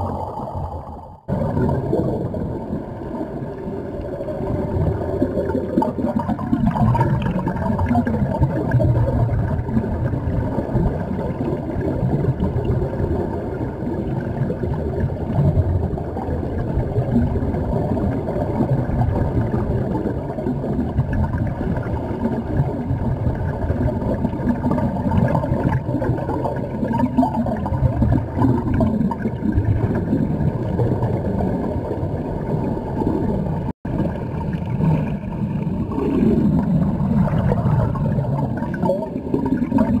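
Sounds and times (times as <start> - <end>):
underwater rumbling and bubbling: 0.0 - 40.0.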